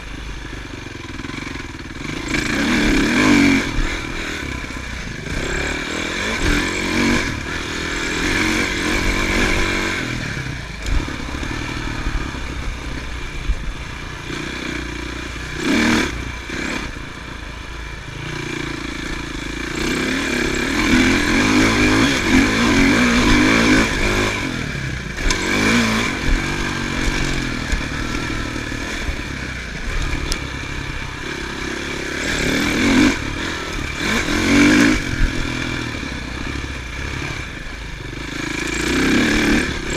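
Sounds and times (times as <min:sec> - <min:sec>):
clatter: 0:00.0 - 0:39.9
motocross bike engine revving: 0:00.0 - 0:39.9.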